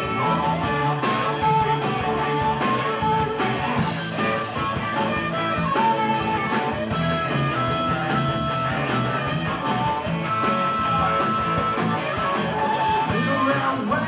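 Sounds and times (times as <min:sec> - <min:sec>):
live rock band instrumental: 0:00.0 - 0:14.0.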